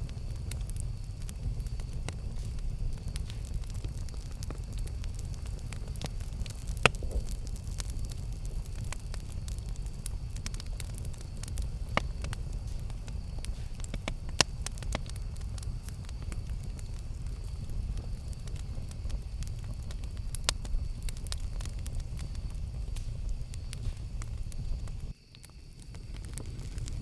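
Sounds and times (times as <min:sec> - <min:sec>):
low rumble: 0:00.0 - 0:25.1
campfire crackling and popping: 0:00.0 - 0:27.0.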